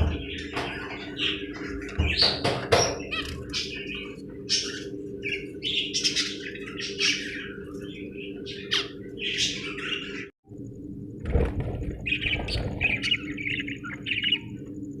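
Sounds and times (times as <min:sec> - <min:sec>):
budgerigars chattering: 0:00.0 - 0:10.3, 0:12.0 - 0:14.5
steady low hum: 0:00.0 - 0:15.0.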